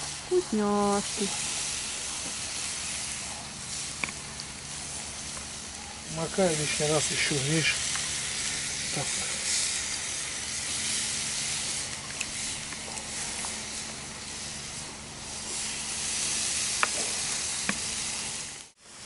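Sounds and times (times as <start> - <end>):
ribs sizzling on a grill: 0.0 - 19.0.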